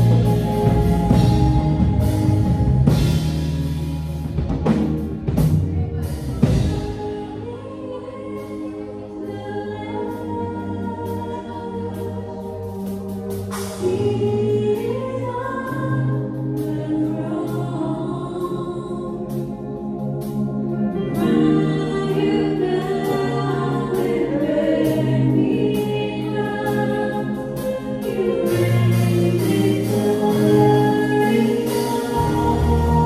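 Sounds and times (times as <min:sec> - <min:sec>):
choir singing a hymn: 0:00.0 - 0:04.0, 0:06.3 - 0:33.0.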